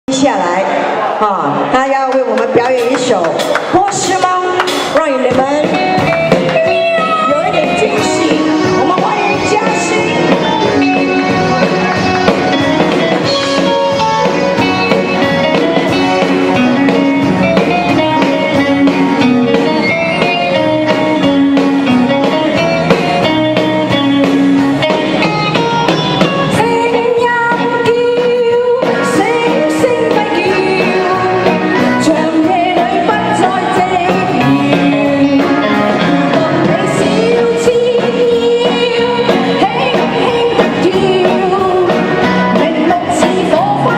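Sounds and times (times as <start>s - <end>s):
loud amplified backing music: 0.1s - 43.9s
person singing pop song: 3.9s - 25.4s, 26.0s - 43.9s.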